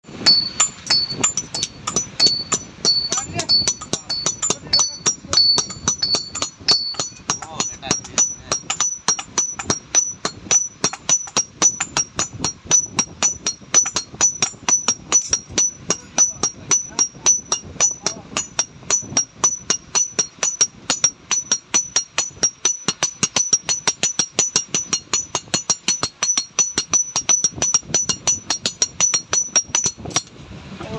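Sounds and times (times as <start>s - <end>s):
hammer striking metal: 0.1s - 30.3s.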